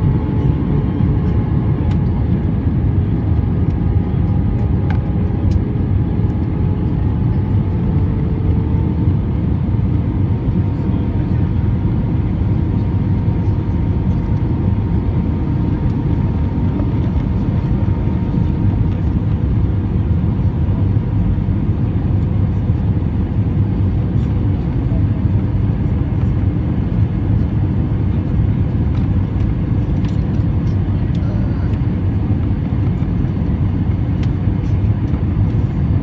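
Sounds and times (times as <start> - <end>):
airplane cabin engine rumble: 0.0 - 36.0.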